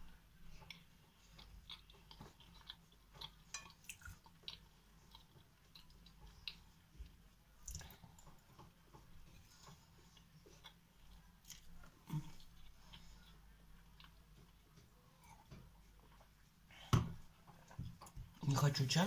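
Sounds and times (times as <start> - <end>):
chewing crumbly cake: 0.1 - 18.5.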